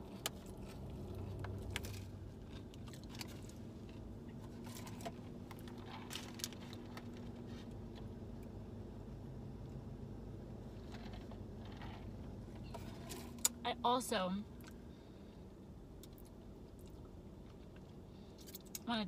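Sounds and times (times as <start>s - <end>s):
car cabin hum: 0.0s - 18.0s.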